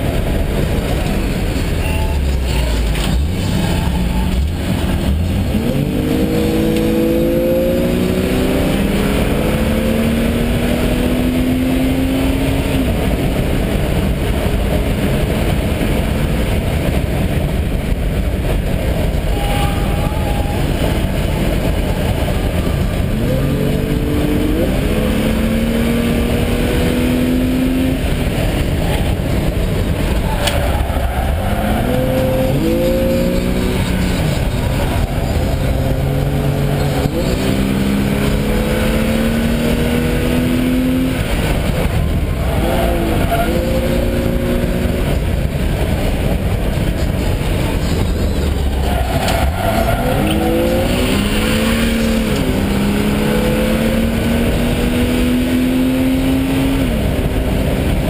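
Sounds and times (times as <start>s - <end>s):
car engine pulling hard: 0.0s - 58.0s
wind and tyre noise: 0.0s - 58.0s.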